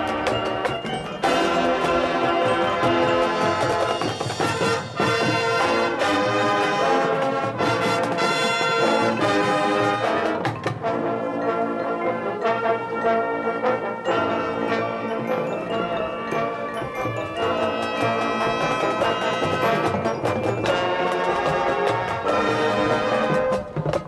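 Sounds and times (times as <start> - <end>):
marching band brass chords: 0.0 - 24.0.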